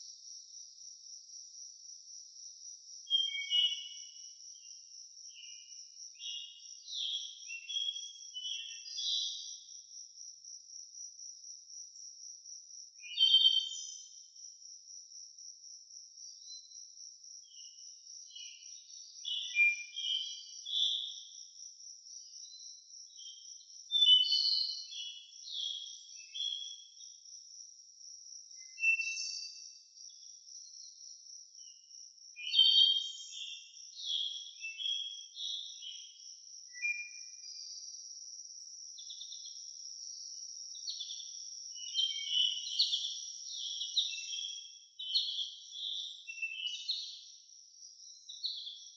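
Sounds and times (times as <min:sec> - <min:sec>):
crickets chirping chorus: 0:00.0 - 0:48.9
songbirds singing: 0:00.0 - 0:48.9.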